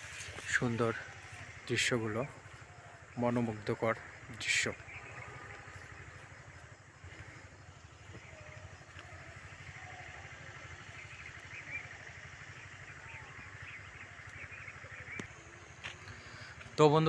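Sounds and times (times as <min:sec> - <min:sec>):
faint chirping: 0:00.0 - 0:17.0.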